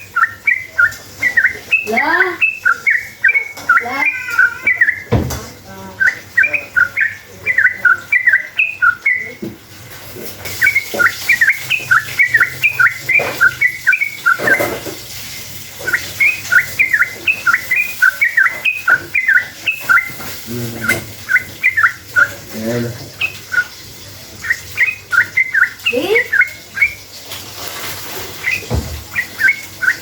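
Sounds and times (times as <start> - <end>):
bulbul chattering song: 0.0 - 14.9, 15.5 - 27.2, 28.4 - 30.0.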